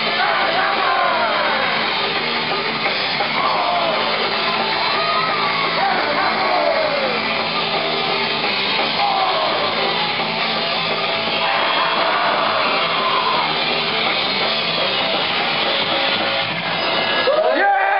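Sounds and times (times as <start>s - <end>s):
drum kit: 0.0s - 17.9s
electric guitar: 0.0s - 17.9s.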